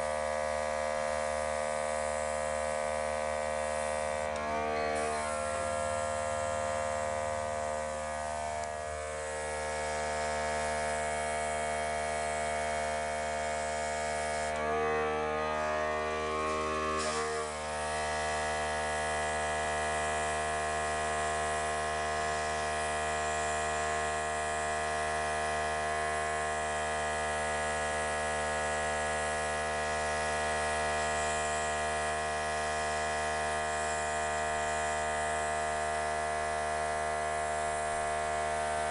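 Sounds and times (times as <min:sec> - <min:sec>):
small electric motor humming: 0:00.0 - 0:38.9.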